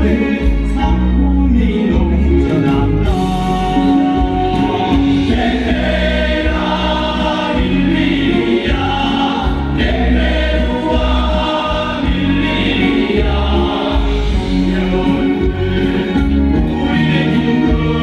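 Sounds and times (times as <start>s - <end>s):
group singing with band: 0.0s - 18.0s.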